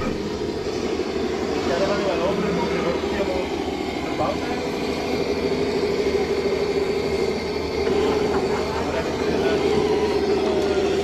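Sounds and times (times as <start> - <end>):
electric motor and gearbox whining: 0.0 - 11.0.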